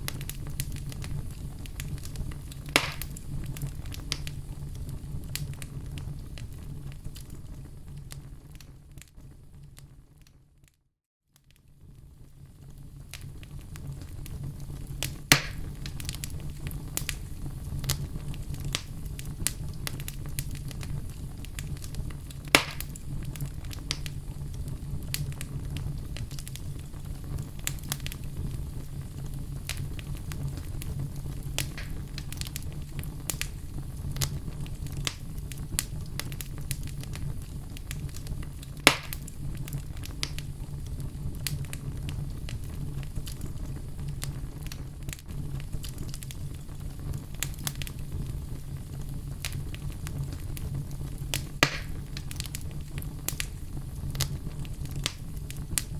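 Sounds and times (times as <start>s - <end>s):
sharp fire pops: 0.0s - 9.9s, 12.0s - 55.9s
fire crackling in fireplace: 0.0s - 10.8s, 11.4s - 55.9s.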